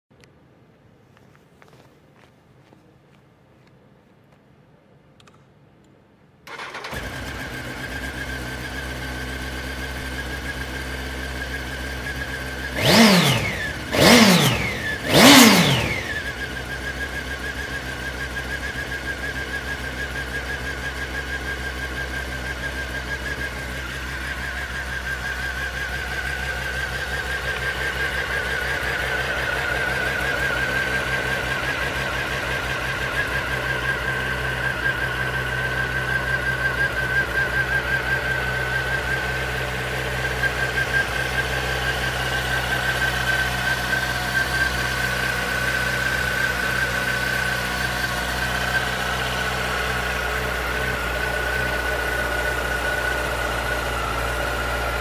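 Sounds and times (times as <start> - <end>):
motorcycle engine starting: 6.4 - 55.0
motorcycle engine idling: 6.5 - 55.0
motorcycle engine revving: 6.5 - 55.0.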